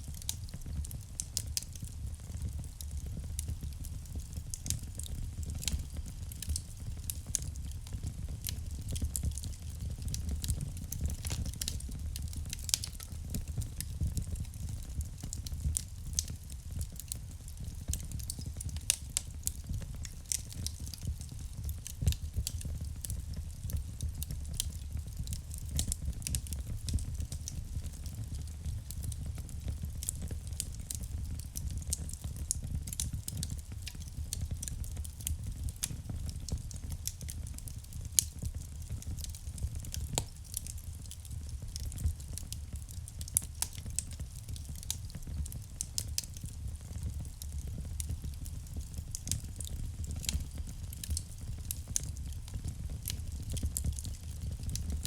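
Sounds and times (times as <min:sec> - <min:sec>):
fire flames rumbling: 0:00.0 - 0:55.0
logs crackling and popping: 0:00.0 - 0:55.0.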